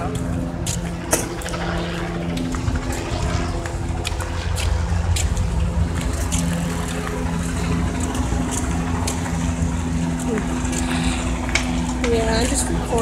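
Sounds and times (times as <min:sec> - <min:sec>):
low rumble: 0:00.0 - 0:13.0
vehicle engine humming: 0:00.0 - 0:13.0.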